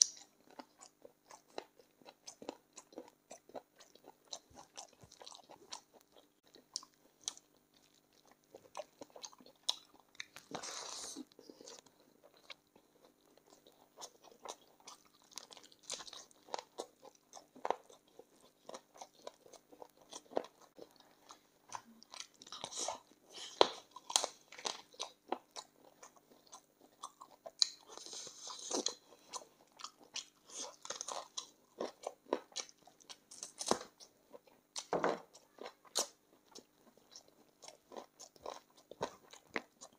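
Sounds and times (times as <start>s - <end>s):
person chewing and crunching bones: 0.0s - 39.9s.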